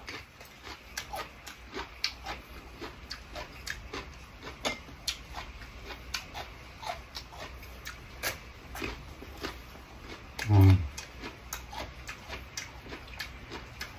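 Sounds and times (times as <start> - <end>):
chewing crisp raw vegetables: 0.0 - 13.9.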